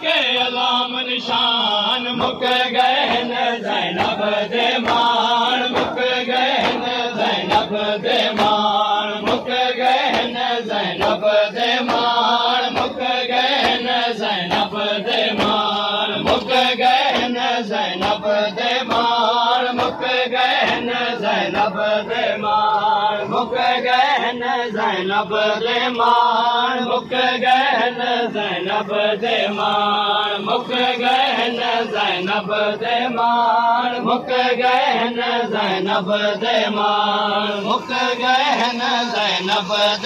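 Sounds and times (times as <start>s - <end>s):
men chanting a lament: 0.0s - 40.0s.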